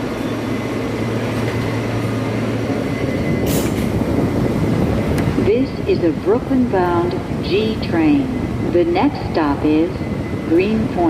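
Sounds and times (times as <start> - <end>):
subway car rumbling: 0.0 - 11.0.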